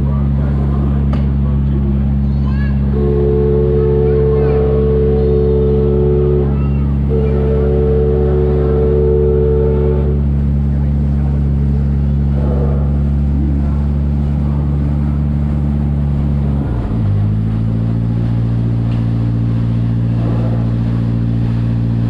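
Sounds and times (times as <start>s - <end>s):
vehicle motor droning: 2.8s - 22.0s.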